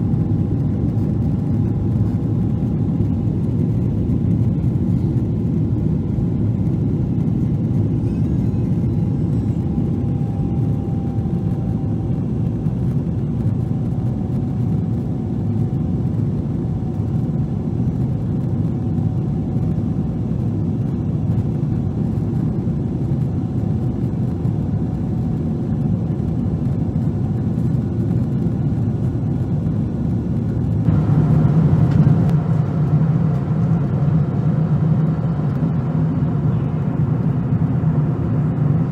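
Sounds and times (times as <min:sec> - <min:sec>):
airplane cabin engine rumble: 0:00.0 - 0:38.9
faint steady whine: 0:00.0 - 0:38.9.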